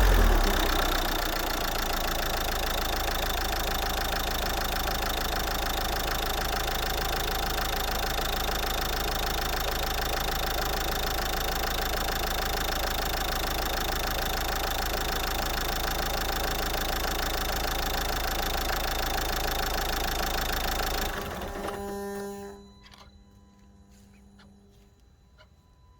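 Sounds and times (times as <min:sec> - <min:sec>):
diesel engine idling: 0:00.0 - 0:22.1.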